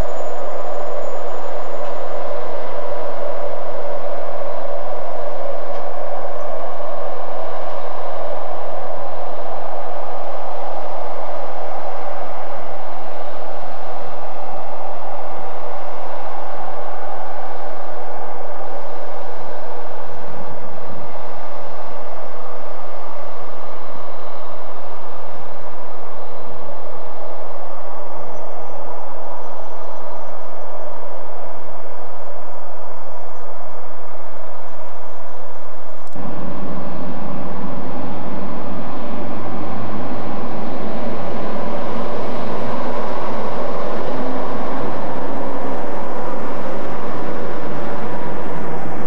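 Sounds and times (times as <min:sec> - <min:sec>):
faint steady whine: 0:00.0 - 0:49.0
low rumble: 0:00.0 - 0:49.0
train hum: 0:00.0 - 0:49.0.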